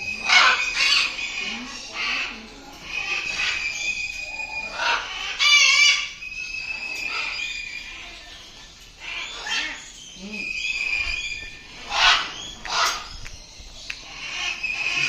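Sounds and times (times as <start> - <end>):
bird harsh squawk: 0.0 - 8.3, 9.0 - 13.3, 14.0 - 15.0.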